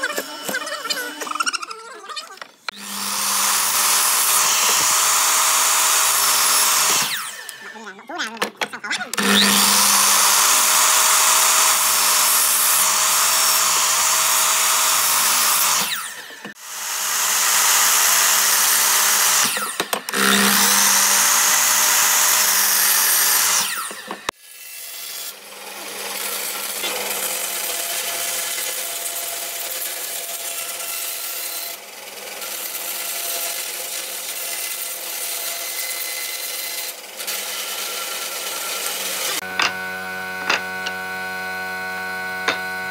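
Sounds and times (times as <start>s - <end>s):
miter saw cutting wood: 0.0s - 1.4s, 2.7s - 42.9s
bandsaw cutting wood: 0.0s - 42.9s.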